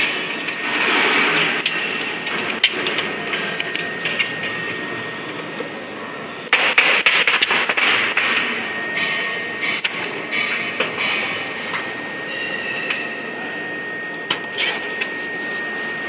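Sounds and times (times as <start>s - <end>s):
workshop machinery noise: 0.0s - 16.0s.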